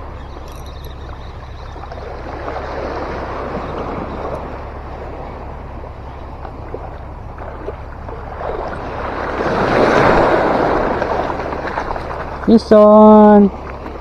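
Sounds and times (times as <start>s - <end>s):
rushing wind and water: 0.0s - 14.0s.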